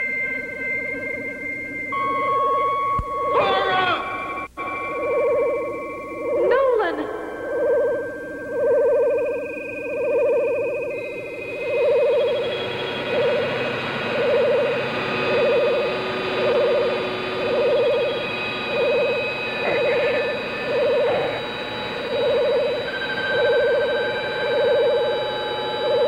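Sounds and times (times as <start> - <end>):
high electronic drones: 0.0 - 26.0
low throbbing electronic tone: 0.0 - 26.0
rising electronic warble: 0.0 - 26.0.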